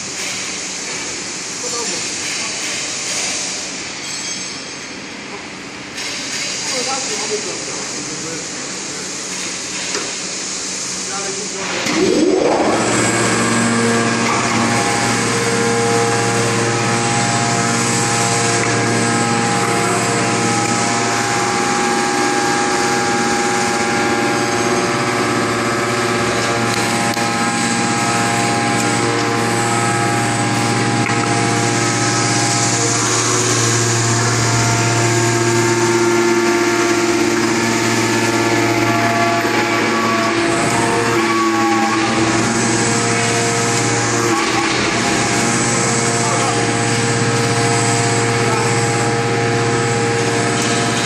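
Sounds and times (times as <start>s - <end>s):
hydraulic pump hum and whine: 0.0s - 51.0s.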